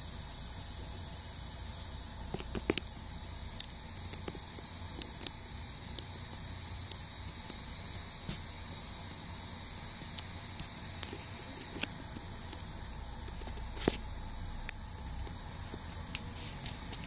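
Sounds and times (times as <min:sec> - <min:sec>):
even hiss: 0:00.0 - 0:17.0.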